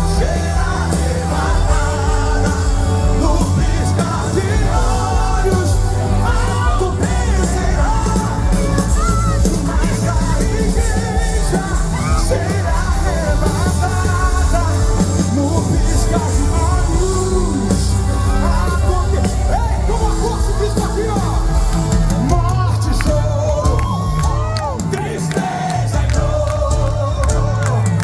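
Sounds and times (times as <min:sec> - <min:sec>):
gospel band playing: 0:00.0 - 0:28.0
person singing: 0:00.0 - 0:28.0.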